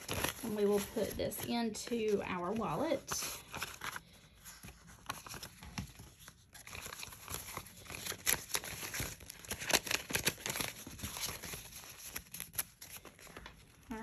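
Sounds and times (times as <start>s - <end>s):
paper banknotes rustling: 0.0s - 14.0s.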